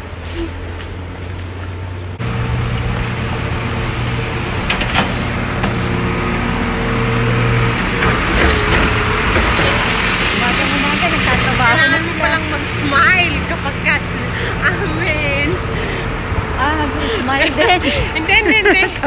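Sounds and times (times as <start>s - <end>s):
engine running: 0.0s - 19.0s
street noise: 0.0s - 19.0s.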